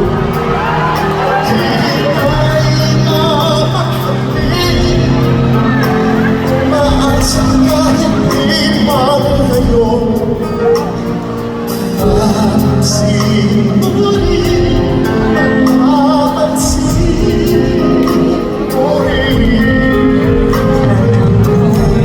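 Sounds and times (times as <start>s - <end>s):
drums and cymbals: 0.0s - 22.0s
live band playing: 0.0s - 22.0s.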